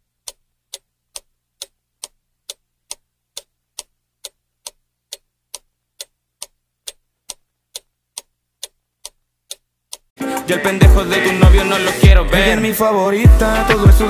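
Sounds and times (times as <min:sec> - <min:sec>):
clock ticking: 0:00.0 - 0:12.6, 0:13.3 - 0:14.0.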